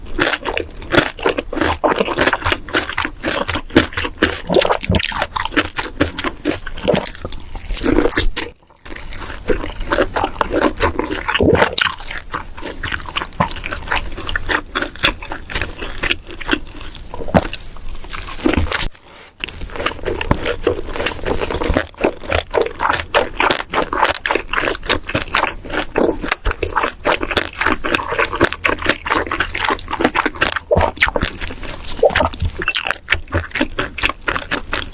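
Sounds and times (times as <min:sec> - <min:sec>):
crunching and chewing food: 0:00.0 - 0:34.9.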